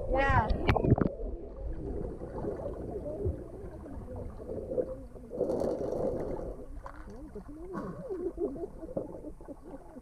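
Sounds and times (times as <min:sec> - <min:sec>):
pool water sloshing and gurgling: 0:00.0 - 0:10.0.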